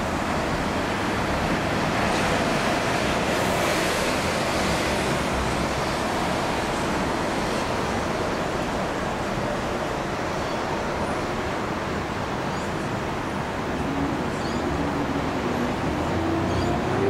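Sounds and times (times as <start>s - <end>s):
distant jet engines roaring: 0.0s - 17.0s.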